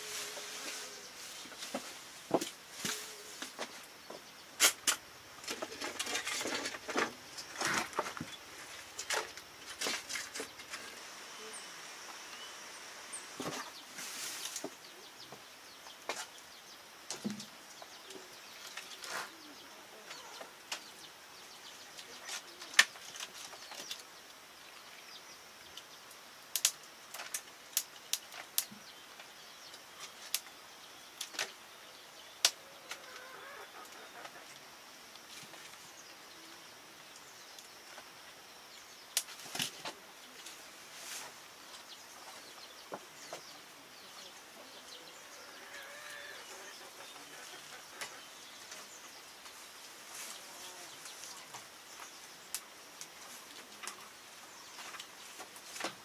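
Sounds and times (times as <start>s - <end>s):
insects hissing: 0.0s - 56.0s.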